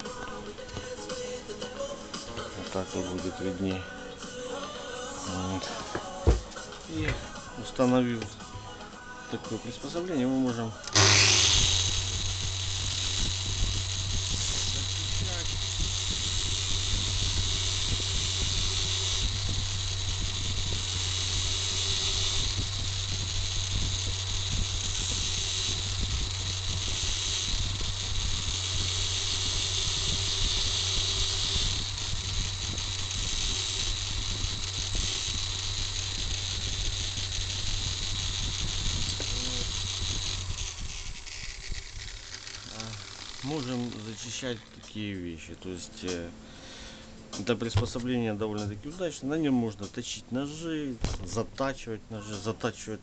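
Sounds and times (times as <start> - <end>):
angle grinder motor hum: 0.0 - 52.7.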